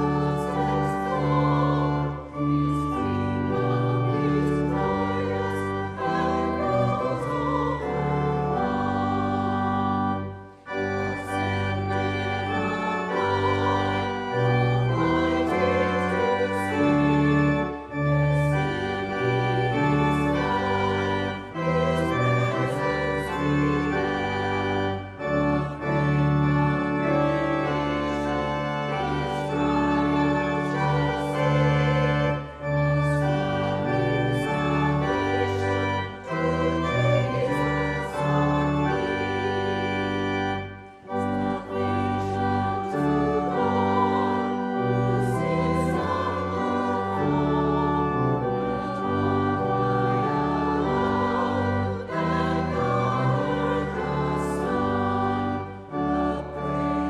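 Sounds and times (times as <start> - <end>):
congregation singing: 0.0 - 57.0
pipe organ playing a hymn: 0.0 - 57.0.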